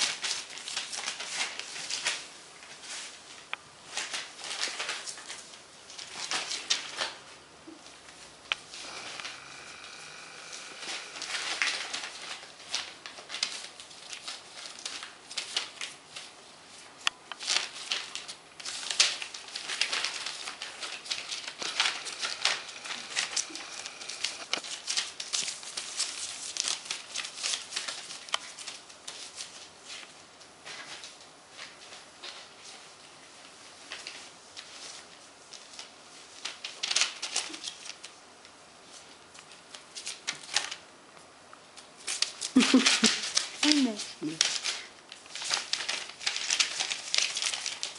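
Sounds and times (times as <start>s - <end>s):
newspaper crinkling and rustling: 0.0s - 40.9s, 41.6s - 47.9s.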